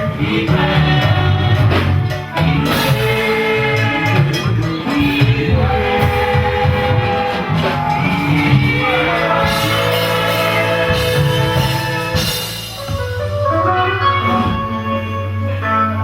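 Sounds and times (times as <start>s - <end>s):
instrumental accompaniment: 0.0s - 16.0s
voices singing held notes: 0.0s - 16.0s.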